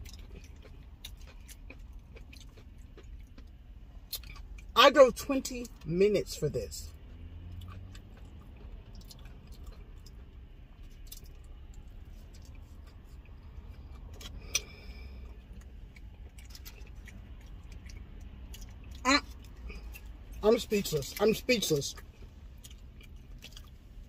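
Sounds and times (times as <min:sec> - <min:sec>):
person chewing: 0:00.0 - 0:05.9, 0:06.9 - 0:24.0
low steady hum: 0:00.0 - 0:24.0.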